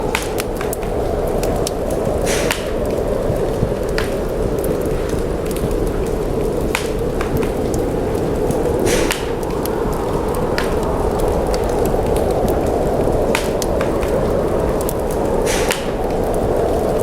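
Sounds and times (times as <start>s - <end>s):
snowstorm wind rushing: 0.0s - 17.0s
wood fire crackling: 0.0s - 17.0s.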